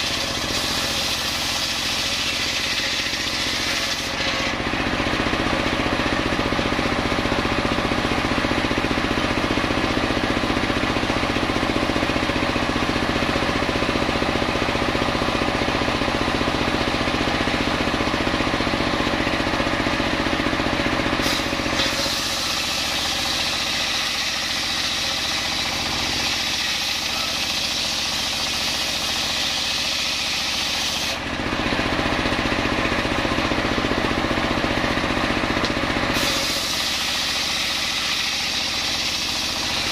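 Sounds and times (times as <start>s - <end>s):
circular saw cutting logs: 0.0s - 39.9s.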